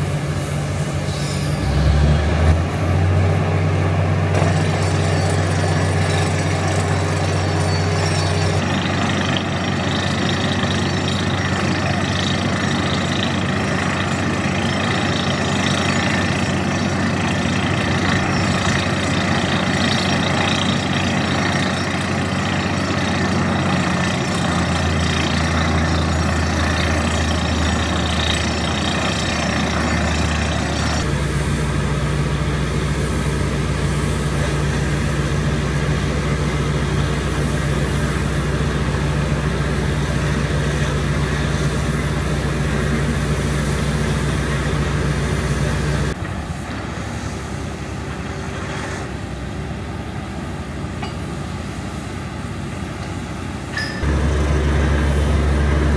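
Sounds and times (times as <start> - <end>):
drilling rig engine drone: 0.0 - 55.9.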